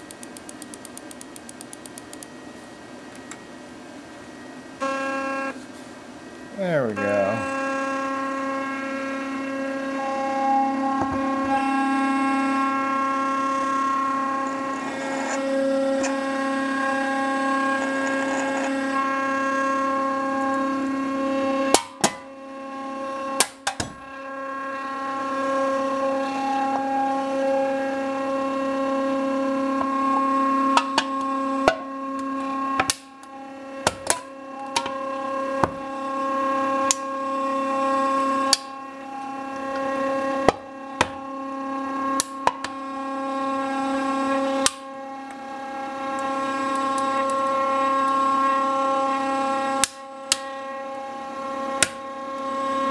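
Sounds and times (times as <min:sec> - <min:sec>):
stepper motors whining: 0:06.3 - 0:52.9.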